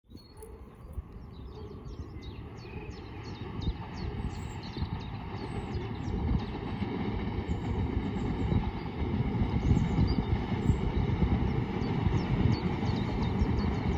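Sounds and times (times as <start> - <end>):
electric train approaching: 0.4 - 13.9.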